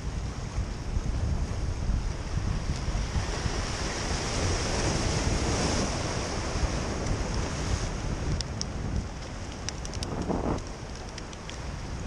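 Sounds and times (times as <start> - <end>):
ocean surf breaking on rocks: 0.0 - 12.0
wind buffeting microphone: 0.0 - 12.0.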